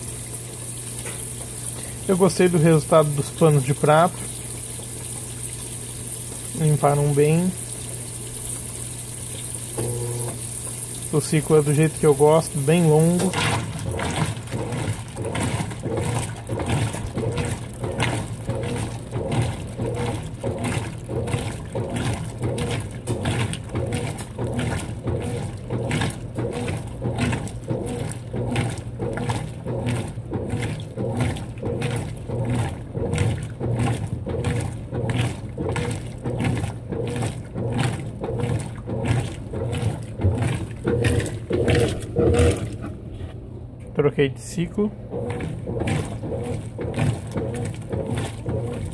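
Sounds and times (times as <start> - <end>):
washing machine motor hum: 0.0 - 48.9
water sloshing and churning: 0.0 - 48.9.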